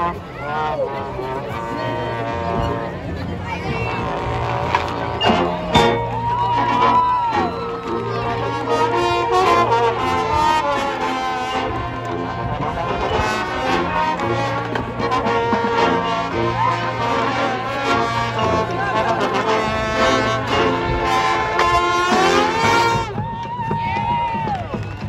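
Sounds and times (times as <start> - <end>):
marching band brass chords: 0.0 - 25.0
held bass note: 1.2 - 22.8.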